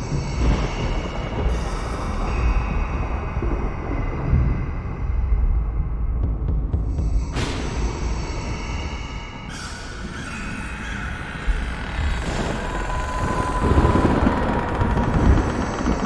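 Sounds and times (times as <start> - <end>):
deep spooky rumble: 0.0 - 16.0.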